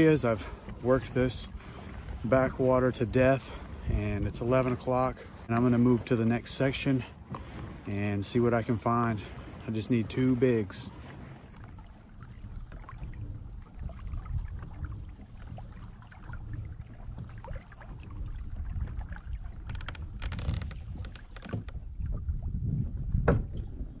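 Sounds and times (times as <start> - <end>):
water moving along hull: 0.0 - 24.0.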